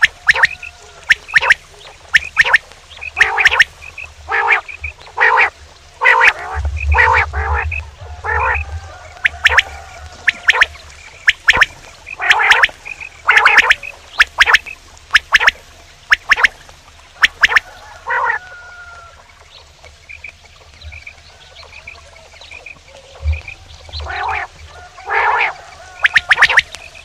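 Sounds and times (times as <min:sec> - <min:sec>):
quail calling: 0:00.0 - 0:19.2, 0:21.7 - 0:27.0.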